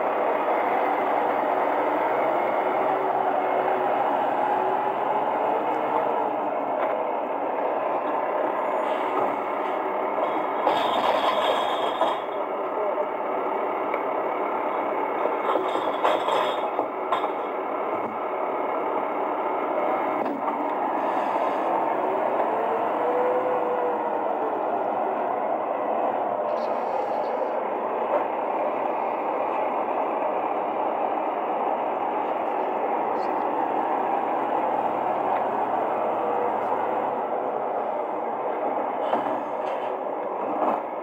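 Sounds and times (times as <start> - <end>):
diesel engine running: 0.0 - 40.3.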